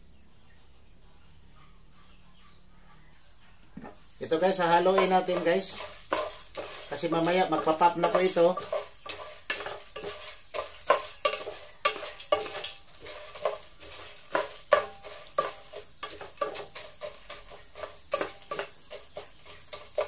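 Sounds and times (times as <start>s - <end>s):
spatula stirring kernels in a pan: 3.8s - 20.0s.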